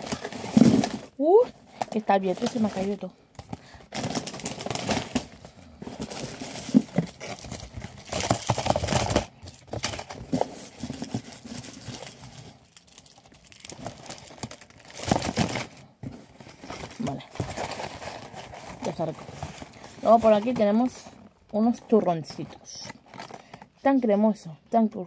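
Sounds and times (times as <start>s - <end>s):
paperboard box rustling and crinkling: 0.0s - 23.7s.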